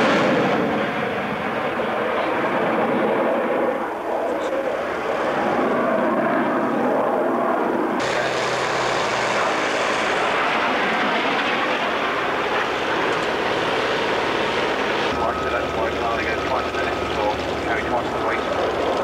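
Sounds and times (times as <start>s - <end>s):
jet flying past: 0.0s - 19.0s.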